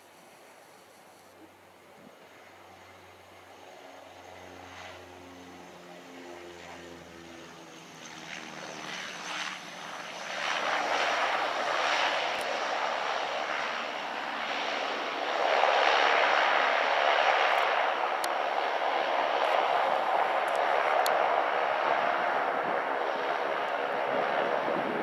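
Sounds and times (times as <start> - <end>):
turboprop engines and propellers: 0.0 - 25.0.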